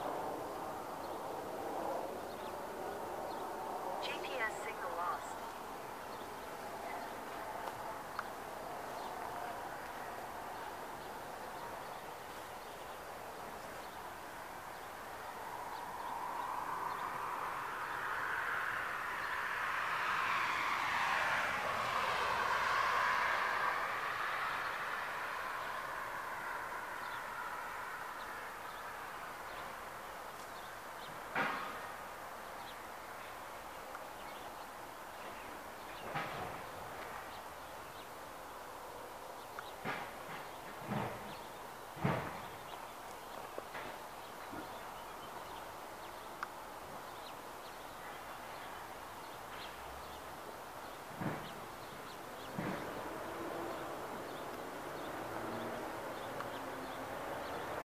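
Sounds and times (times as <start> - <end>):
road vehicle passing: 0.0 - 57.8
steady outdoor hiss: 0.0 - 57.8.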